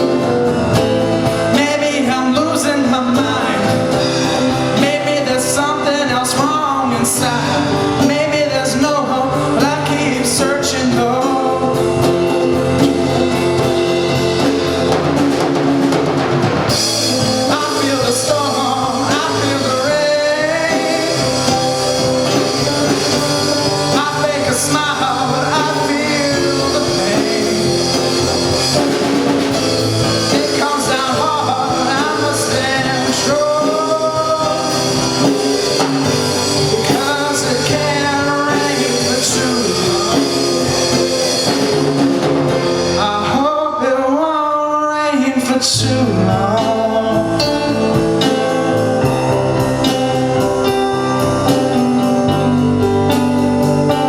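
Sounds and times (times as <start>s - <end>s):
melodic lead line bending: 0.0s - 43.6s, 45.8s - 54.0s
rock band playing slow song: 0.0s - 54.0s.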